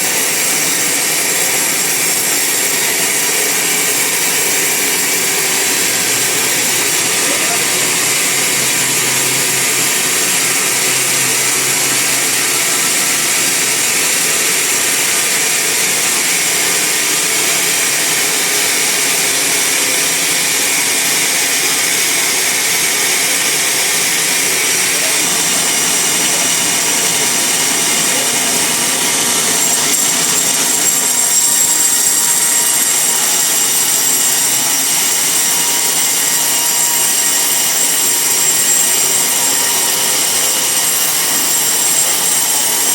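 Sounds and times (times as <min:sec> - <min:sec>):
band saw sawing through log: 0:00.0 - 0:42.9.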